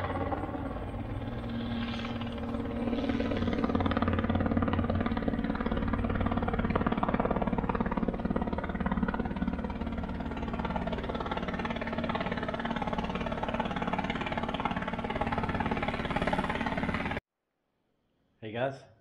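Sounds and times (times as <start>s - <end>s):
helicopter rotor chopping: 0.0s - 17.2s.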